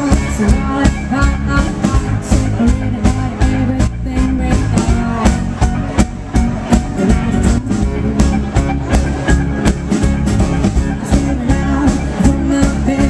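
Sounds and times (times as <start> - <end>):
acoustic-electric guitar: 0.0 - 13.0
drums keeping a steady beat: 0.0 - 13.0
electric bass: 0.0 - 13.0.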